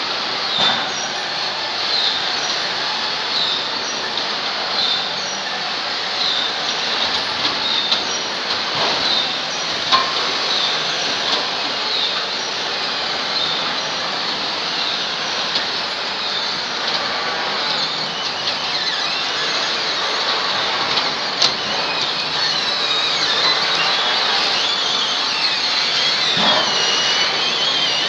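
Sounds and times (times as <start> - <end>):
mill machinery running: 0.0 - 28.0
faint metallic squeals: 0.5 - 28.0.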